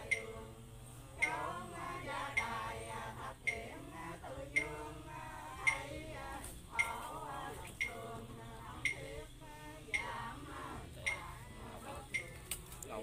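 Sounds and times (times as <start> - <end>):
chant-like singing voices: 0.0 - 13.0.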